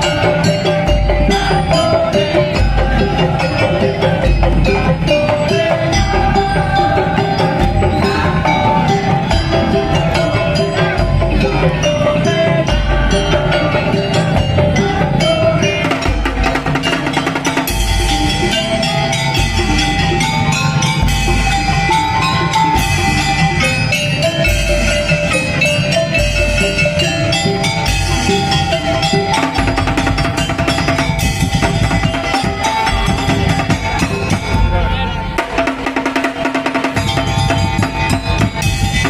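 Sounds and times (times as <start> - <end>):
low drum beats: 0.0 - 39.0
percussion ensemble music: 0.0 - 39.0
sustained melody line: 0.0 - 39.0.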